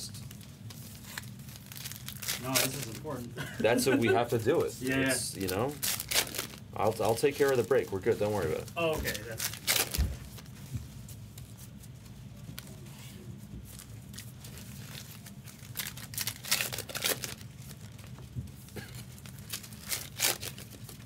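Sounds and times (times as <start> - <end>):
foil wrappers crinkling and tearing: 0.0 - 13.0, 13.6 - 21.0
low steady hum: 0.0 - 21.0.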